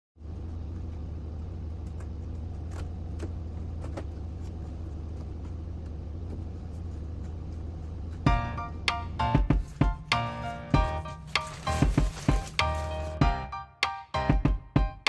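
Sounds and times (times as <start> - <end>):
vehicle engine droning: 0.2 - 13.4.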